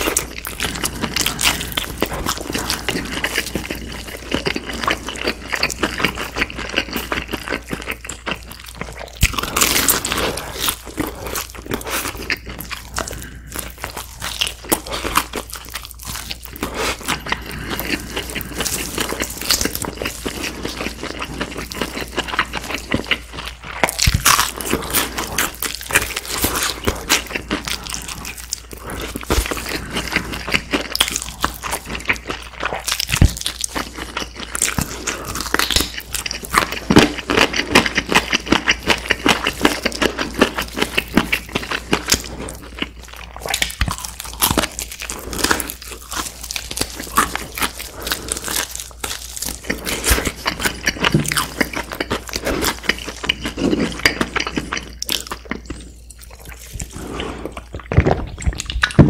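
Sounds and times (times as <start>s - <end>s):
crunching fried chicken: 0.0s - 59.0s.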